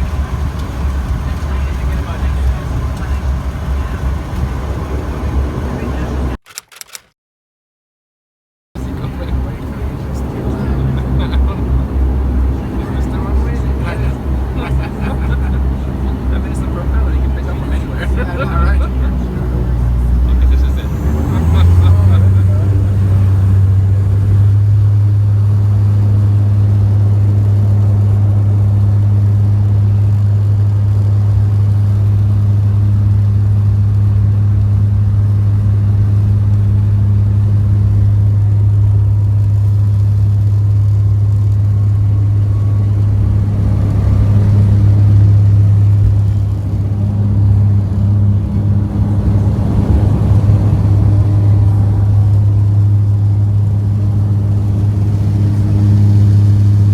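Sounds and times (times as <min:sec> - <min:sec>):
turboprop engine cabin drone: 0:00.0 - 0:07.0, 0:08.8 - 0:56.9.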